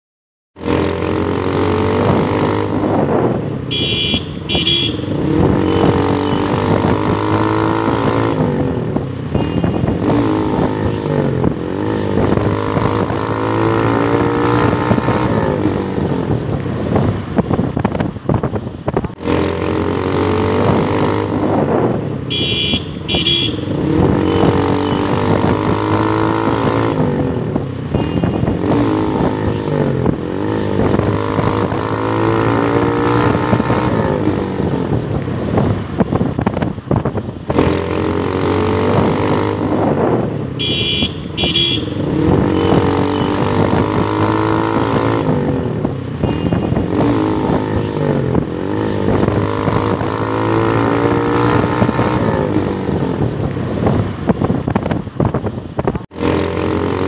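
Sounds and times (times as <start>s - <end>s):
motorcycle engine revving: 0.6s - 57.0s.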